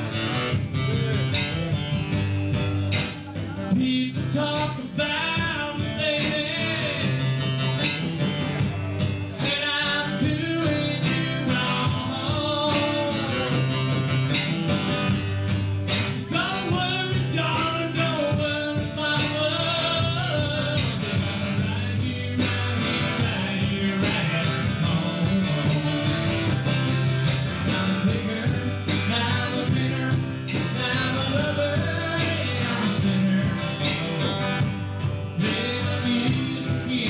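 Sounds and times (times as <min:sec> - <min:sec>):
man singing: 0:00.0 - 0:02.0, 0:02.9 - 0:14.2, 0:16.0 - 0:34.7, 0:35.3 - 0:37.0
bass line: 0:00.0 - 0:37.0
strummed acoustic guitar: 0:00.0 - 0:37.0.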